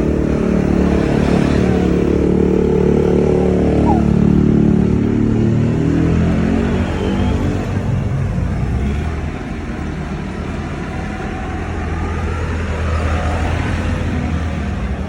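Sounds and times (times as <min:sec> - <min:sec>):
road noise: 0:00.0 - 0:15.0
tractor engines rumbling: 0:00.0 - 0:15.0.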